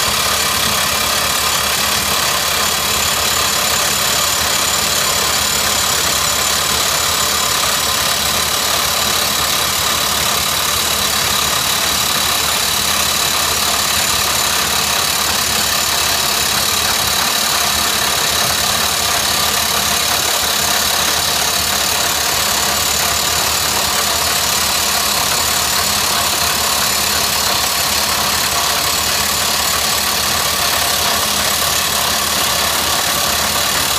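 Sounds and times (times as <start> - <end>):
rock drill hammering: 0.0 - 33.9.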